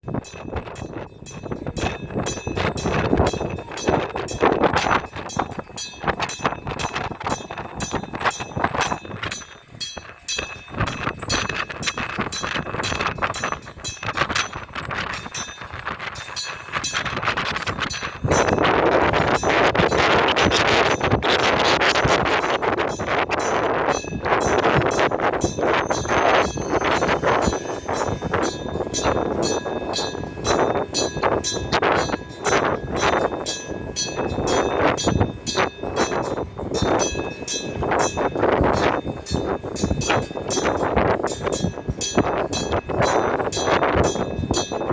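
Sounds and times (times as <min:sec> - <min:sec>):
level crossing bell clanging: 0:00.1 - 0:44.9.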